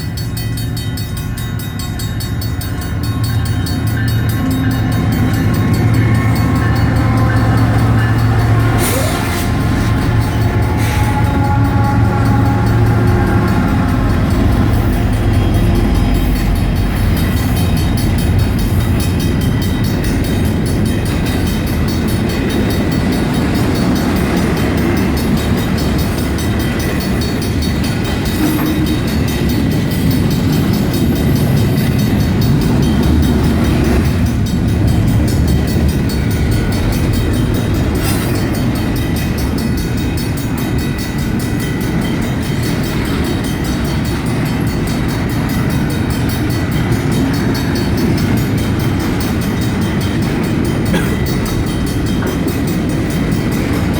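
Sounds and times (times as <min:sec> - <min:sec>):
crossing bells ringing: 0:00.0 - 0:53.9
freight train wheels rumbling on rail: 0:00.0 - 0:53.9.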